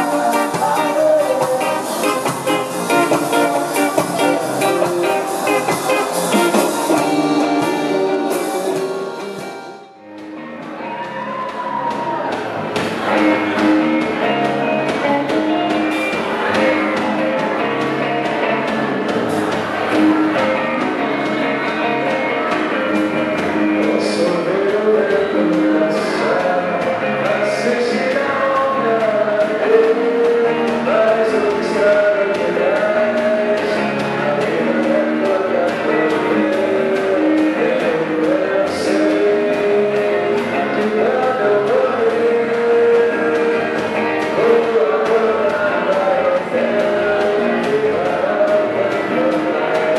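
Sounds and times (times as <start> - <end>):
rock band playing: 0.0 - 49.9
steady drum beat: 0.0 - 49.9.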